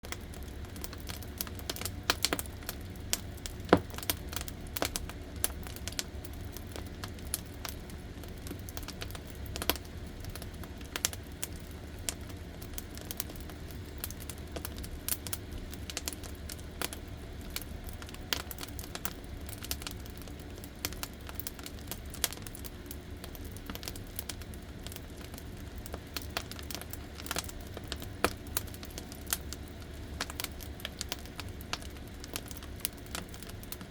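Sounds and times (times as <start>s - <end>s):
firewood logs crackling: 0.1s - 5.1s, 7.2s - 33.9s.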